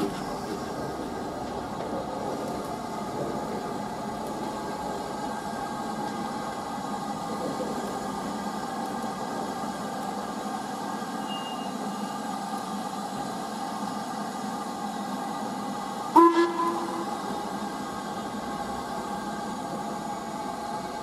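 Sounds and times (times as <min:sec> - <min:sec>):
steam locomotive hissing: 0:00.0 - 0:21.0.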